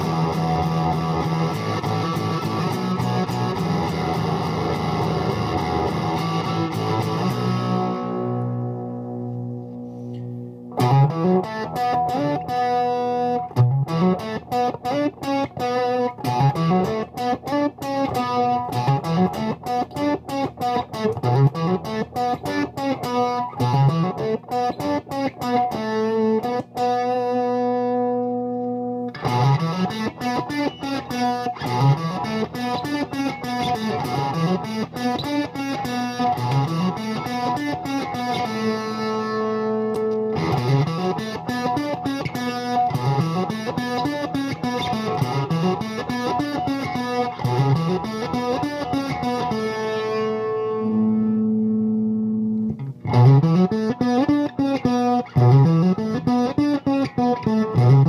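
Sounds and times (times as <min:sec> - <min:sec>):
electric guitar riff: 0:00.0 - 0:58.0.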